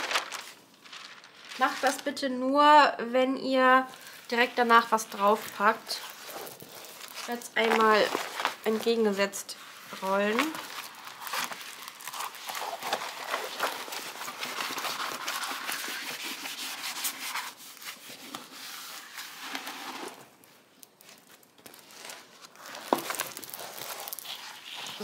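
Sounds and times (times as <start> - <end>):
plastic film rustling and crackling: 0.0 - 2.4, 3.7 - 25.0.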